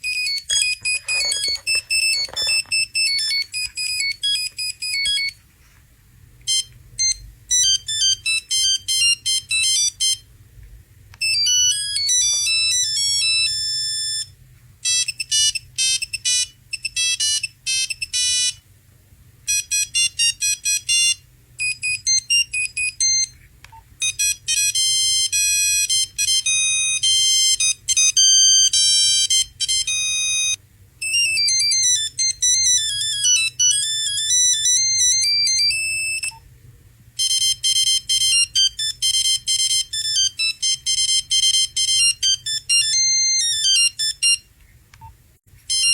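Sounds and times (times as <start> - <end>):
electronic ringtone melodies: 0.0 - 5.4, 6.5 - 10.2, 11.2 - 18.6, 19.5 - 23.3, 24.0 - 36.4, 37.2 - 44.5, 45.7 - 45.9.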